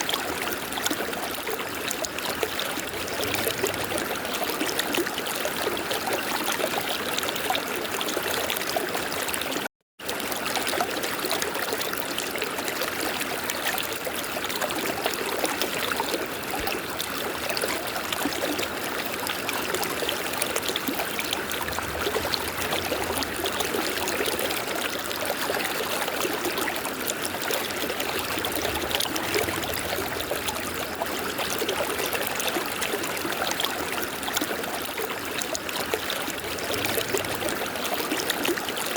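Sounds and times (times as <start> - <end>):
river water running: 1.7 - 6.0, 11.6 - 38.9.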